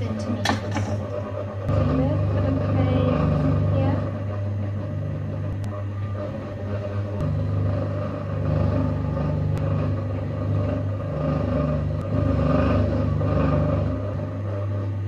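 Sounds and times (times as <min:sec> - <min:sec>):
potter's wheel motor humming: 0:00.0 - 0:15.0.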